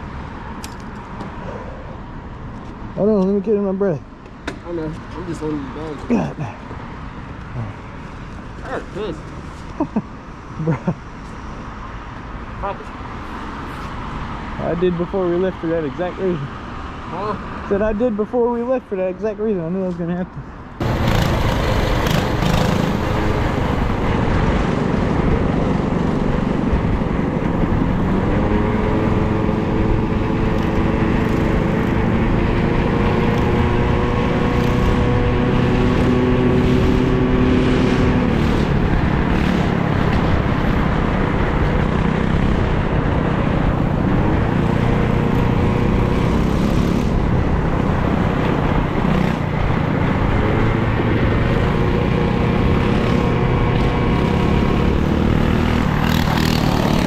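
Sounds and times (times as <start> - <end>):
road noise: 0.0 - 57.0
vehicle engine: 0.0 - 57.0.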